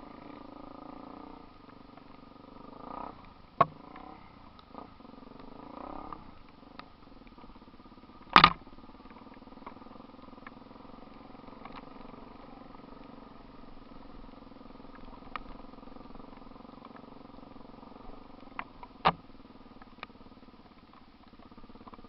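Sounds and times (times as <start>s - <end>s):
vehicle engine running at low revs: 0.0s - 22.0s.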